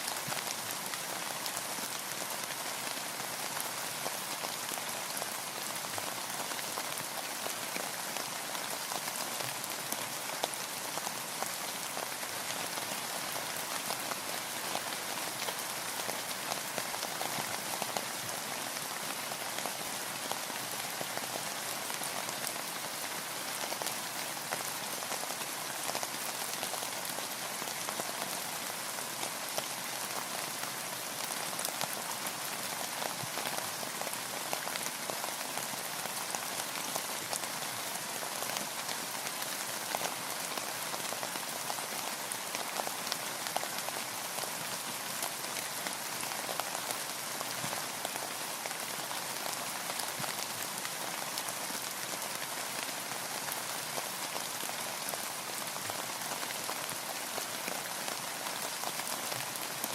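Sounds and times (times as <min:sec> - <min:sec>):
rain pattering on a boat: 0:00.0 - 0:59.9.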